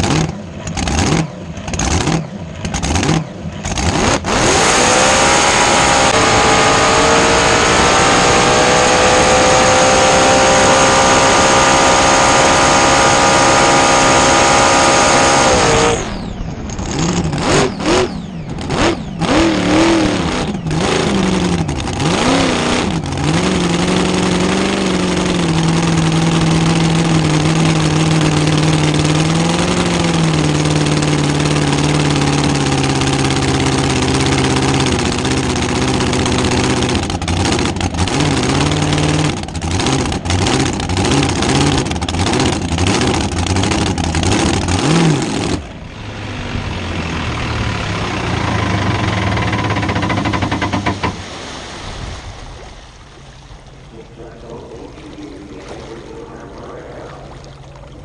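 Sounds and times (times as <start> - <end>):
boat engine at full throttle: 0.0 - 58.0
engine throttle blips: 0.0 - 58.0.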